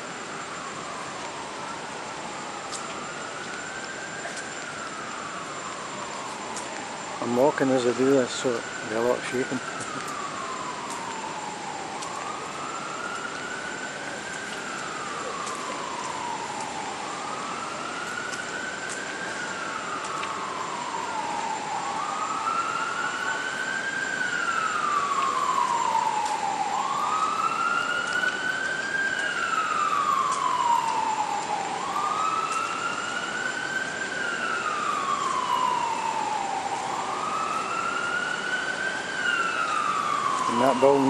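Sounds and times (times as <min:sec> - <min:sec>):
siren wailing: 0:00.0 - 0:41.0
traffic hum: 0:00.0 - 0:41.0.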